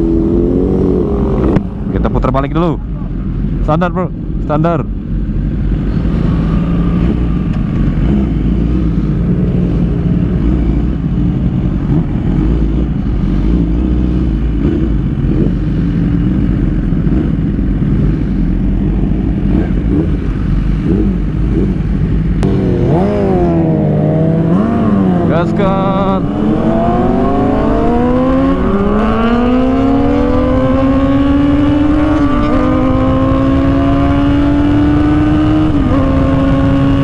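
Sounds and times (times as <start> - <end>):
motorcycle engine running: 4.9 - 37.0.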